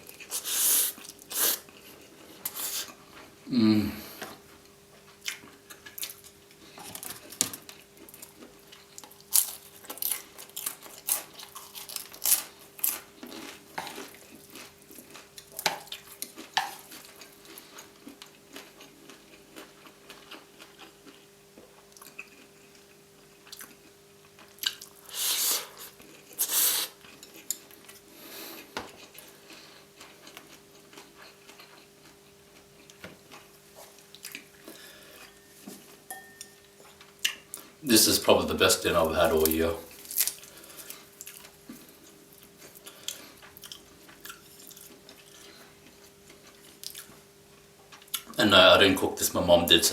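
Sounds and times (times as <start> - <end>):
chewing crispy noodles: 0.0 - 3.3, 4.3 - 35.4, 39.2 - 48.4
faint steady hum: 0.0 - 49.9.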